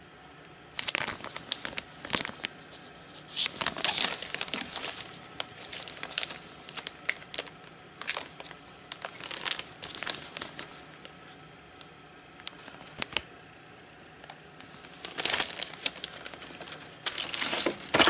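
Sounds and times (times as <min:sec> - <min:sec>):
plastic sleeve pages crinkling: 0:00.7 - 0:11.2, 0:12.4 - 0:13.3, 0:14.6 - 0:18.0.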